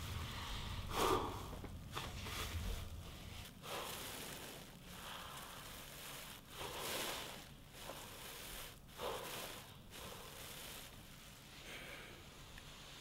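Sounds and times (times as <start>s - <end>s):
man breathing deeply: 0.0s - 10.9s, 11.5s - 12.8s.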